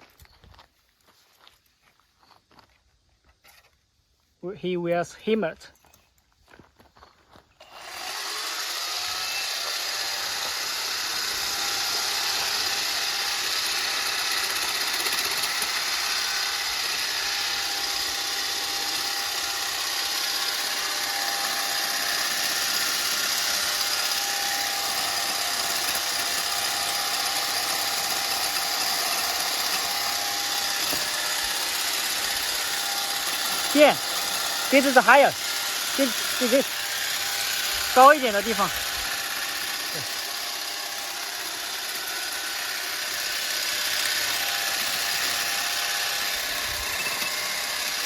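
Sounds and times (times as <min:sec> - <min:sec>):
electric brush cutter motor whine: 0:07.6 - 0:48.0.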